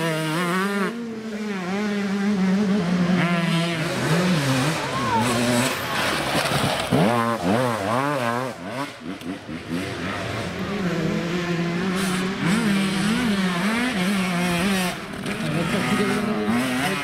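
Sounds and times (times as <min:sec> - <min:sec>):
dirt bike engine: 0:00.0 - 0:17.0
motorcycle engine revving: 0:00.0 - 0:17.0.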